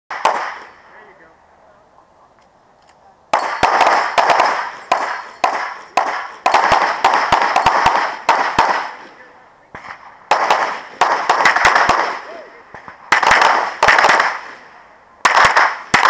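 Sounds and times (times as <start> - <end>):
gunshots with echoing tail: 0.1 - 0.9, 3.3 - 16.0.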